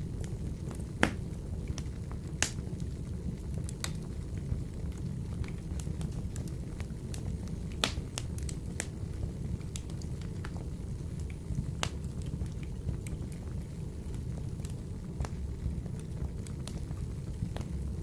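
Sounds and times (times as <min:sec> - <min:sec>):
fire crackling and popping: 0:00.0 - 0:18.0
low rumble of burning logs: 0:00.0 - 0:18.0.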